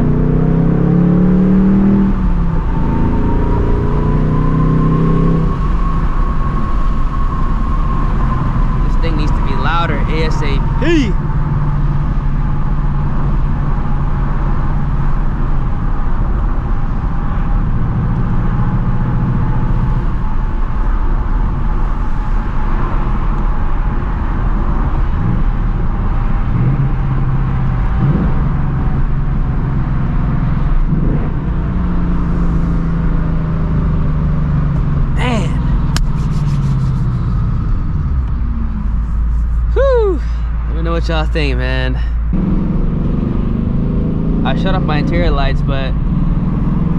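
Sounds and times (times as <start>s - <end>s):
car engine cruising: 0.0s - 46.9s.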